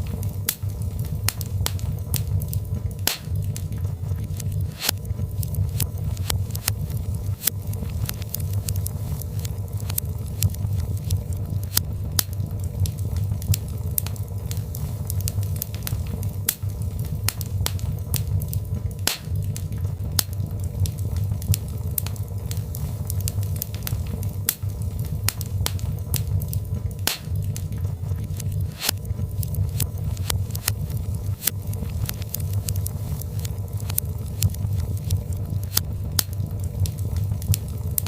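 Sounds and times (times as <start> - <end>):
fireplace crackling and popping: 0.0 - 38.0
low rumble of fire: 0.0 - 38.0.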